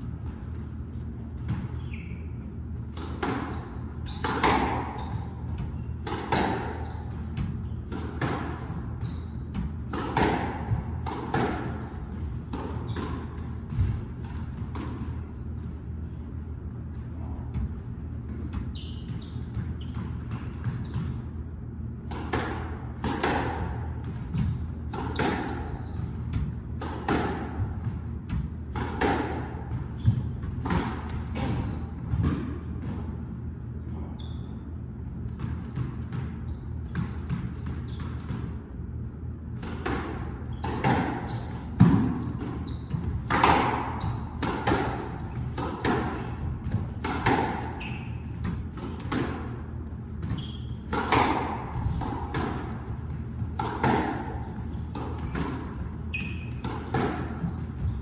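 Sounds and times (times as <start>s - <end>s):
squash ball hitting rackets and walls: 0.0s - 58.0s
steady low hum: 0.0s - 58.0s.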